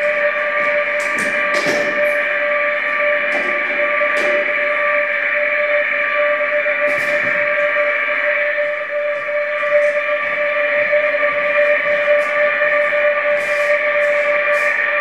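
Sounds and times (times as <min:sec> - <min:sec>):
droning held tone: 0:00.0 - 0:15.0.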